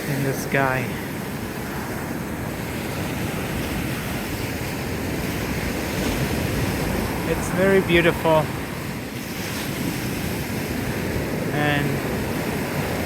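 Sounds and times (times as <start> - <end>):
ocean surf washing onto beach: 0.0 - 13.0
wind rumbling on microphone: 0.0 - 13.0.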